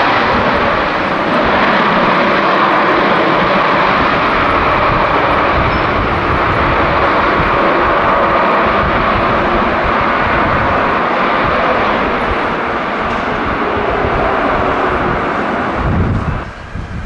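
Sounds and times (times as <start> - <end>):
jet engine rush: 0.0 - 17.0.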